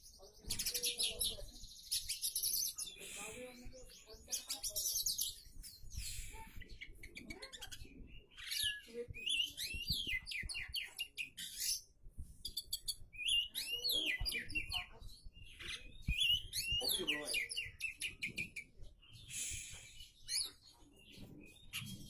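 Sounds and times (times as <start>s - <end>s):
songbird singing whistles and trills: 0.4s - 22.0s.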